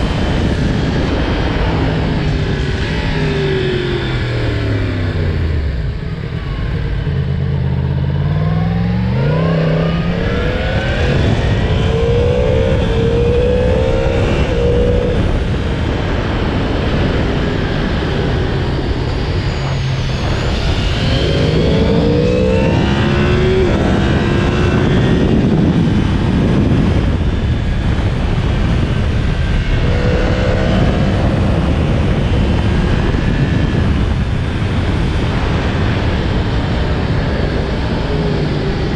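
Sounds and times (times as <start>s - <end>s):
motorcycle engine revving: 0.0s - 38.9s
steady rush of noise: 0.0s - 38.9s.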